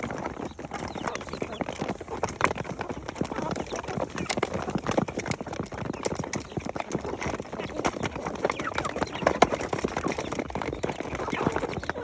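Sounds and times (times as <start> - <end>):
chickens pecking feed: 0.0 - 12.0.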